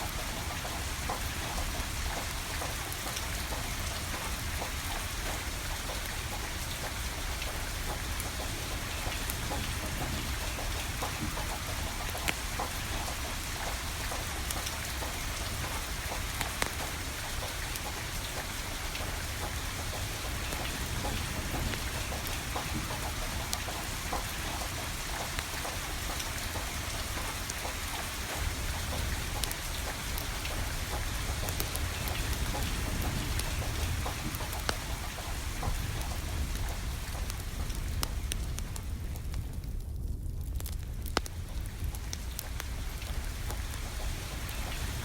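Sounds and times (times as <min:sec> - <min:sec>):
burning firewood crackling: 0:00.0 - 0:45.0
steady rain falling: 0:00.0 - 0:45.0.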